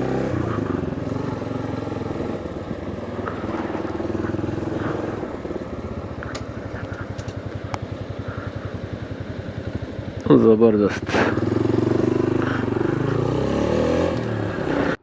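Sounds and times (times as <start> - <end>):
motorcycle engine throbbing: 0.0 - 15.0.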